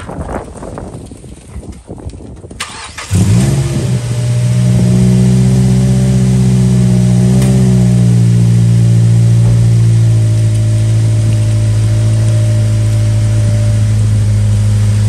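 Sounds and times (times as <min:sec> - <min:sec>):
car engine starting and idling: 0:02.5 - 0:15.0.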